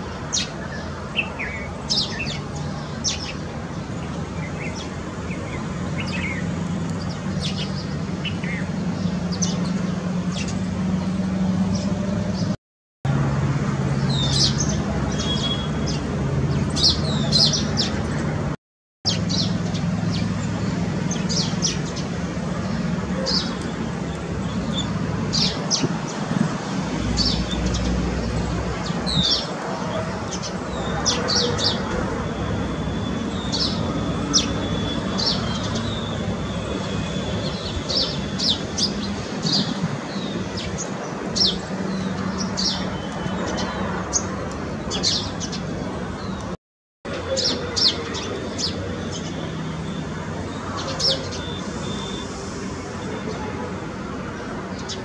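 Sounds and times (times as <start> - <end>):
small birds chirping: 0.0 - 12.6, 14.0 - 18.5, 19.1 - 26.4, 27.1 - 53.5, 54.3 - 55.0.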